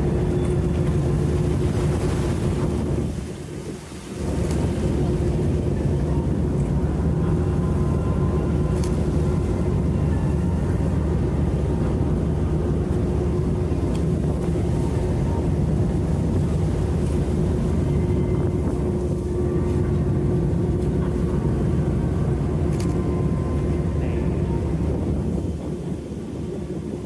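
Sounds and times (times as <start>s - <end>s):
ship engines droning: 0.0s - 27.0s.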